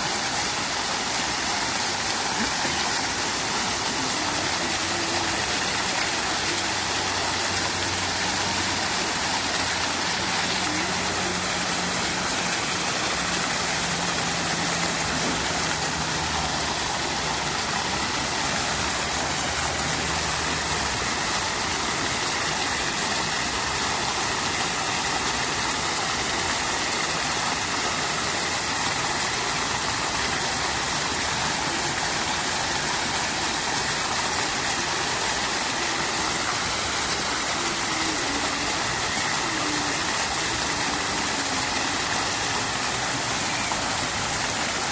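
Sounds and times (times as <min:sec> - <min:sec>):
fountain water splashing: 0:00.0 - 0:44.9.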